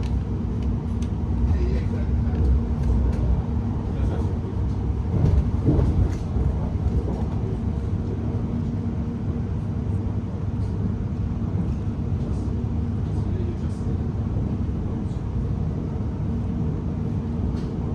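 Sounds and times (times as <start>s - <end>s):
train wheels rumbling on track: 0.0s - 17.9s.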